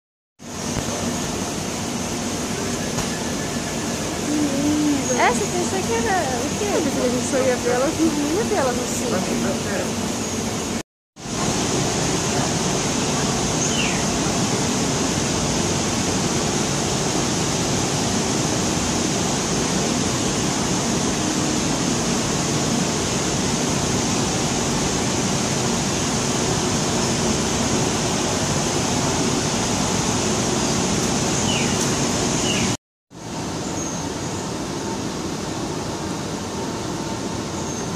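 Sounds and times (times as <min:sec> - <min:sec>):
steady rushing background noise: 0:00.4 - 0:37.9.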